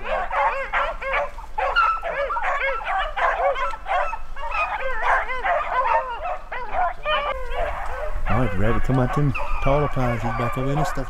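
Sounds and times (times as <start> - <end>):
dogs baying and yelping: 0.0 - 11.0.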